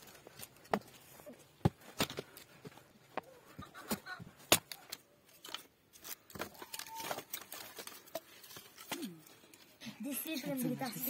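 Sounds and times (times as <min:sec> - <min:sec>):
sticks rustling and knocking: 0:00.0 - 0:10.4.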